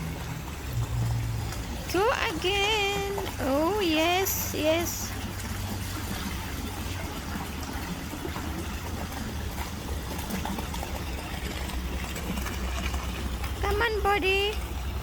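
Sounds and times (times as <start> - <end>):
low steady hum: 0.0 - 15.0
running water: 0.0 - 15.0.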